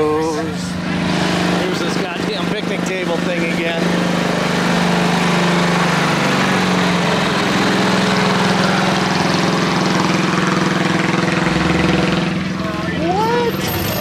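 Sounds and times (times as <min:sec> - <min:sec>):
engine running loudly: 0:00.0 - 0:14.0.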